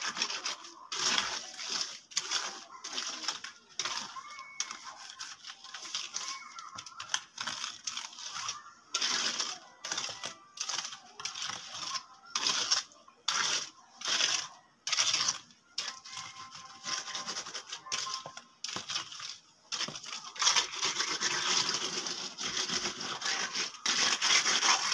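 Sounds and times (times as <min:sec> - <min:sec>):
trowel scraping wet concrete: 0:00.0 - 0:24.9.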